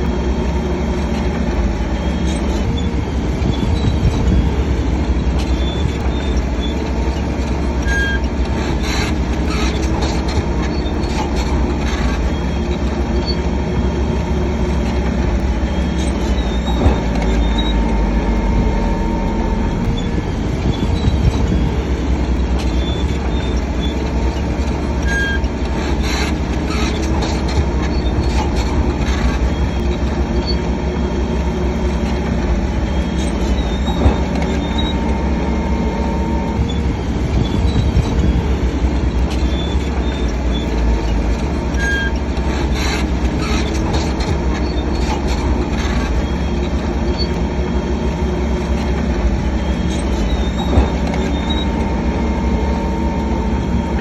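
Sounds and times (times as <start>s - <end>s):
bulldozer diesel engine: 0.0s - 54.0s
metal track clanks: 0.0s - 54.0s
steel tracks squealing: 0.0s - 54.0s.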